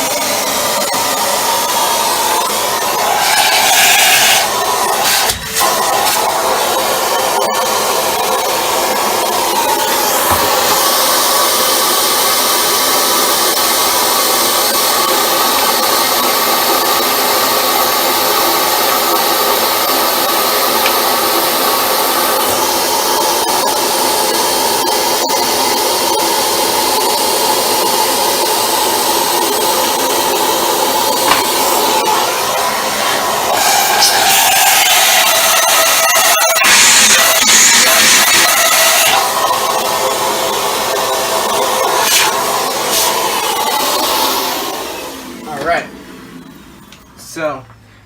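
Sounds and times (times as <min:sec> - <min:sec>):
vacuum cleaner motor with rushing air: 0:00.0 - 0:46.8.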